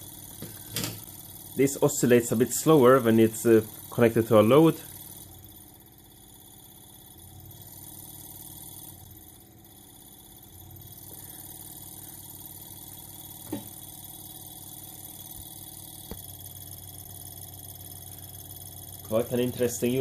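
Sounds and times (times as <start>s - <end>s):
relay ringing generator buzzing: 0.0s - 20.0s.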